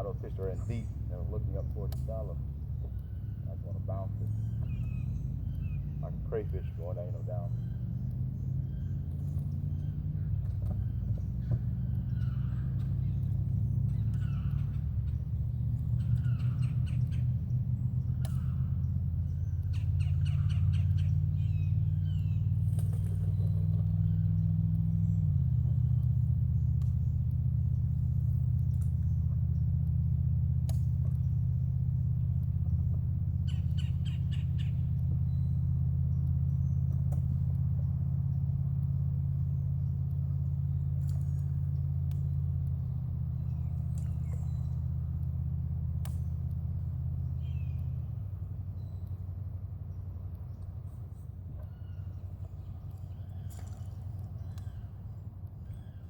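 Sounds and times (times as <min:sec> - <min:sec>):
birds chirping: 0:00.0 - 0:56.0
low motor hum: 0:00.0 - 0:56.0.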